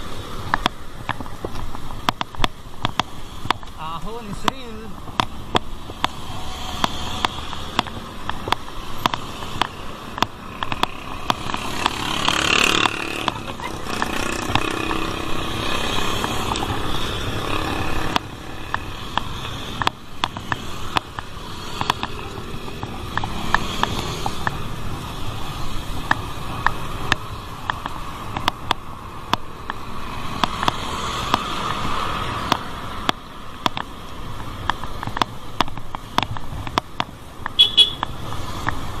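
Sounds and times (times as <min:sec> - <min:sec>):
road and traffic noise: 0:00.0 - 0:39.0
sharp clicks: 0:00.5 - 0:14.9, 0:18.1 - 0:24.6, 0:26.0 - 0:38.9
motor vehicle passing: 0:02.6 - 0:35.4.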